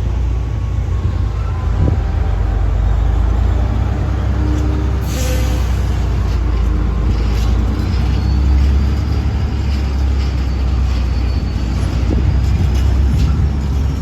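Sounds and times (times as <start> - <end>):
large engine rumbling: 0.0 - 14.0.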